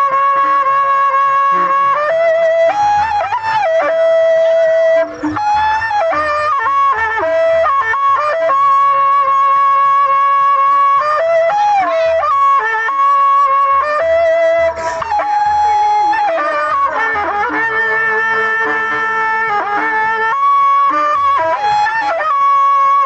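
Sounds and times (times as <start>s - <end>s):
shrill shawm melody: 0.0s - 23.0s.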